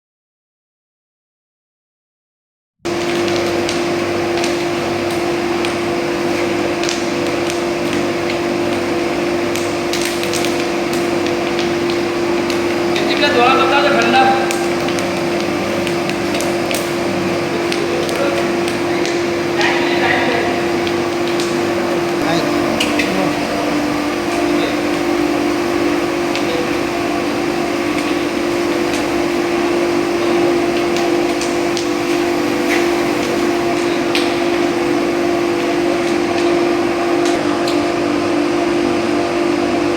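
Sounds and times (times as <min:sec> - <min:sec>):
machine humming: 0:02.9 - 0:39.9.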